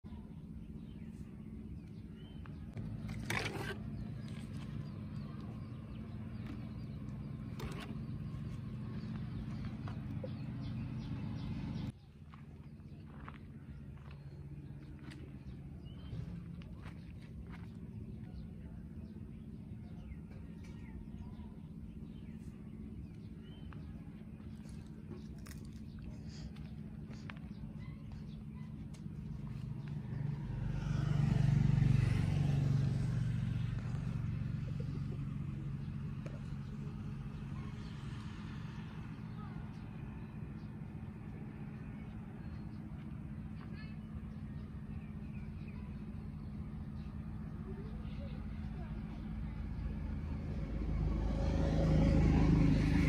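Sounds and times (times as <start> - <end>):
steady low hum: 0.1 - 51.4.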